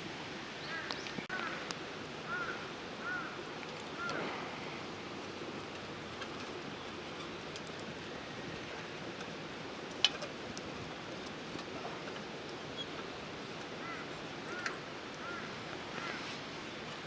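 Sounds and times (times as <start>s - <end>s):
wood fire crackling: 1.0s - 17.0s
burning wood popping: 1.6s - 17.0s.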